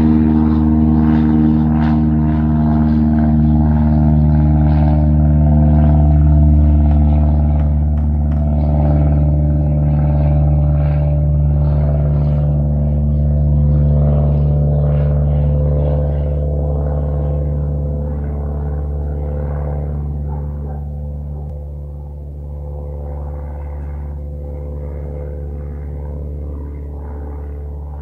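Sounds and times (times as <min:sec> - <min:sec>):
propeller plane engine drone: 0:00.0 - 0:28.0.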